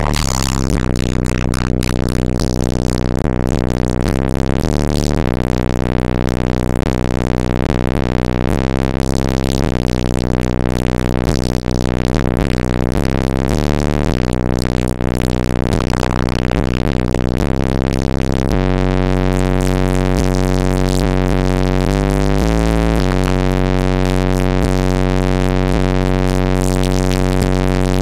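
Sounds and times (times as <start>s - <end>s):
bass-heavy electronic music: 0.0s - 28.0s.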